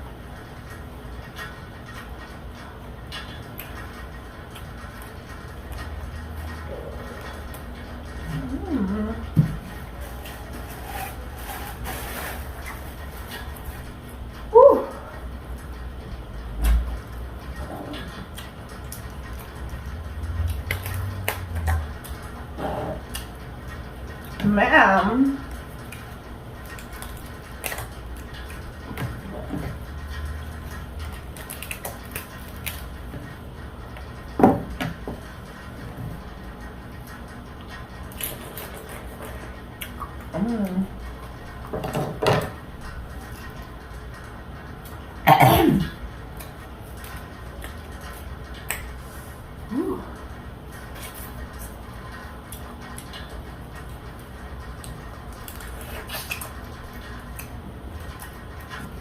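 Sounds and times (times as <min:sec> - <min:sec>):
room heater hum: 0:00.0 - 0:59.0
person chewing seafood: 0:00.6 - 0:15.8, 0:17.0 - 0:24.4, 0:25.4 - 0:45.2, 0:45.9 - 0:59.0.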